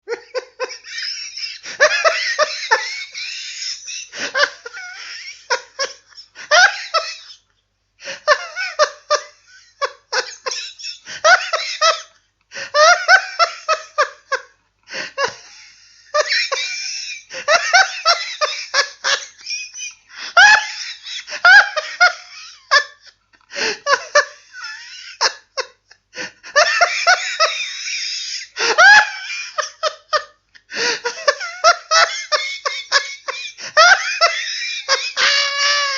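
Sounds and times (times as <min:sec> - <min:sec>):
man laughing heartily: 0:00.0 - 0:35.9.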